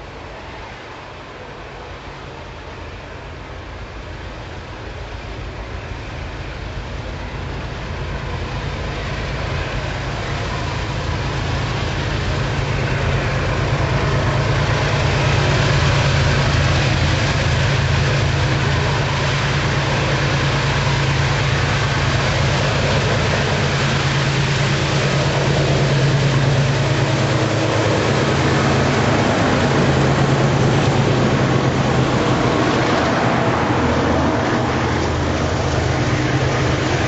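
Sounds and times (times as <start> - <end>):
diesel locomotive engine drone: 0.0 - 37.0
train rail noise: 0.0 - 37.0.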